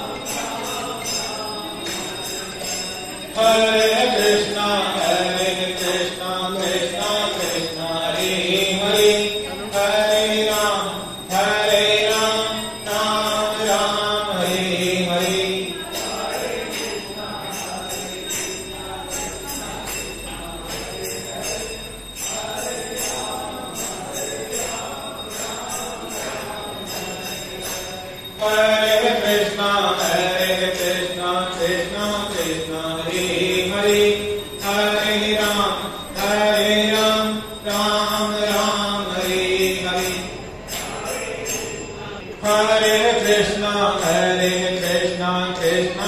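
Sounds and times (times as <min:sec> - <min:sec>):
mantra chanting with music: 0:00.0 - 0:46.0.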